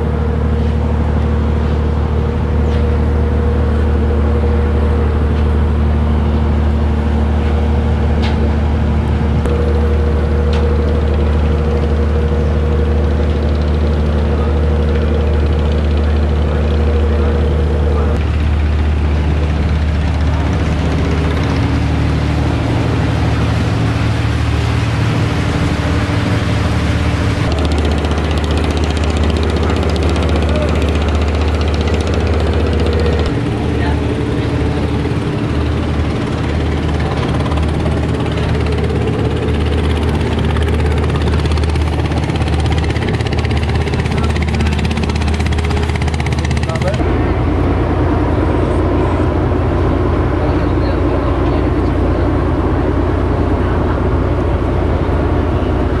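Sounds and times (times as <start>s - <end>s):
large engine droning: 0.0s - 56.0s.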